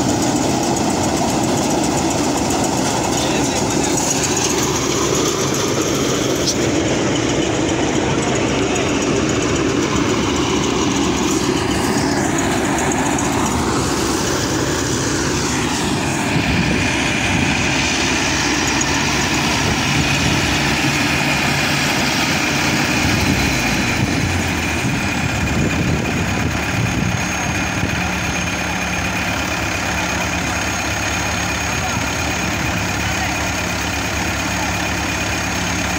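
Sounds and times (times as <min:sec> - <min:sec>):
diesel engines running: 0:00.0 - 0:35.9
steady high whine: 0:00.0 - 0:35.9.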